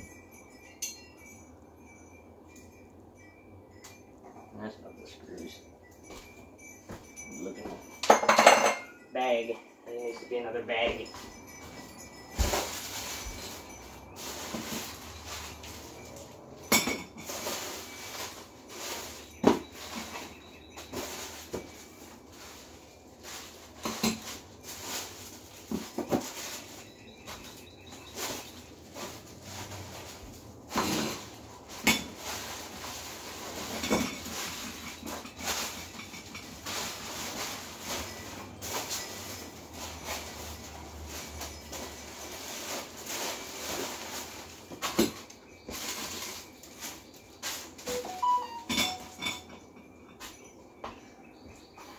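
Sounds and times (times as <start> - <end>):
household items clinking and knocking: 0.0 - 9.2, 9.9 - 51.0.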